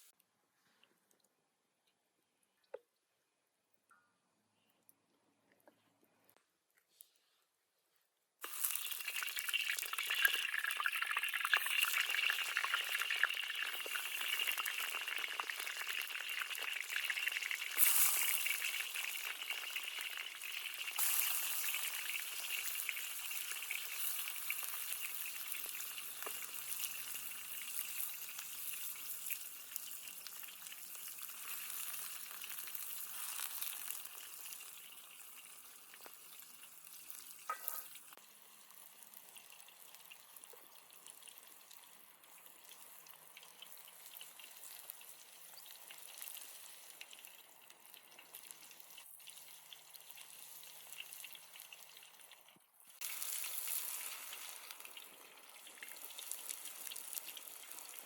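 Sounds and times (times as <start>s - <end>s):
food sizzling in hot oil: 8.4s - 58.0s.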